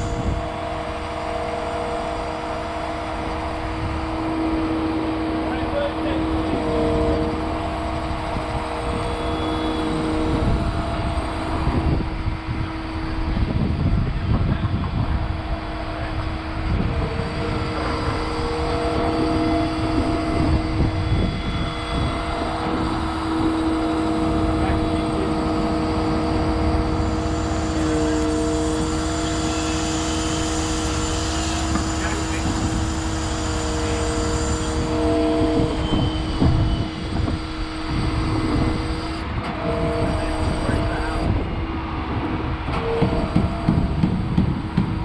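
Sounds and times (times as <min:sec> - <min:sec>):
excavator engine rumble: 0:00.0 - 0:45.0
machine whine: 0:00.0 - 0:45.0.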